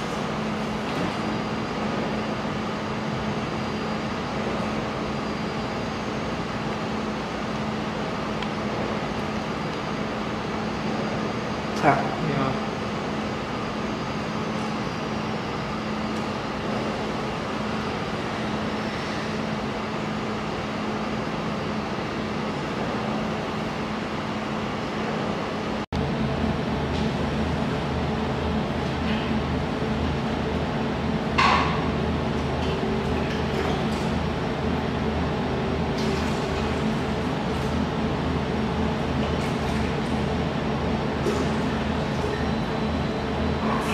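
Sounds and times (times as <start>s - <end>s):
fans and motors droning: 0.0s - 43.9s
water chiller humming: 0.0s - 43.9s.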